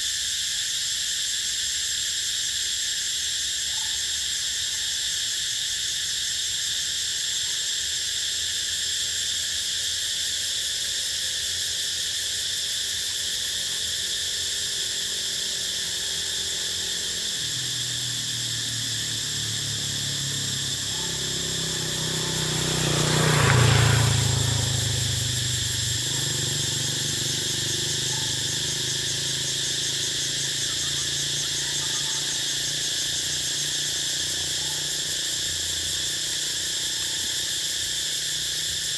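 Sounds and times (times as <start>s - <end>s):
insects shrill drone: 0.0s - 38.9s.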